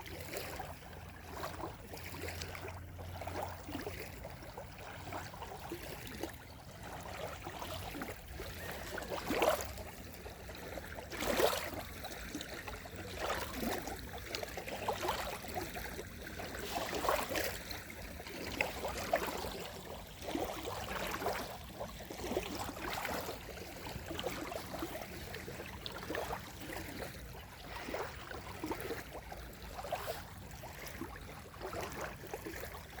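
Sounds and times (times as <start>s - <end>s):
small waves lapping at shore: 0.0s - 33.0s.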